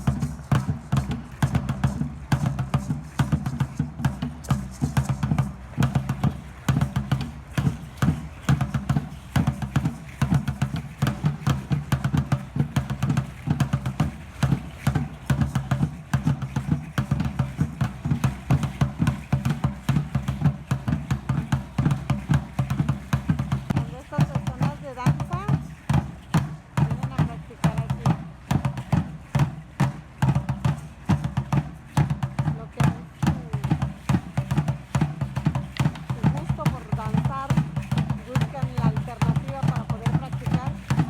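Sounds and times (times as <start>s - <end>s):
clattering percussion: 0.0s - 41.0s
large drum beating: 0.0s - 41.0s.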